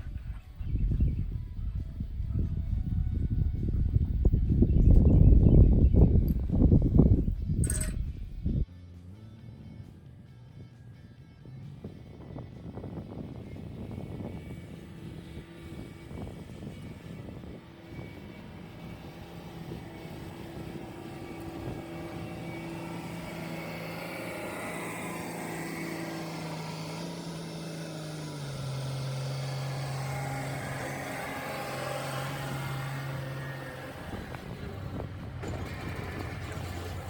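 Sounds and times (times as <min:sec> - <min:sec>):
truck engine humming: 0:03.4 - 0:37.0.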